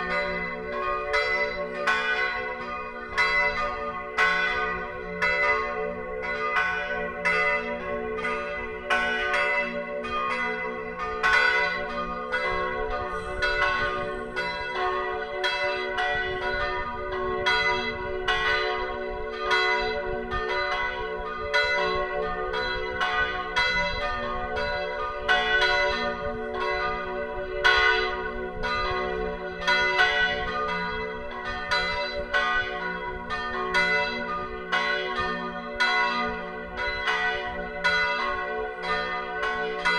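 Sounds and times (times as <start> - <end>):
church bells ringing together: 0.0 - 39.9.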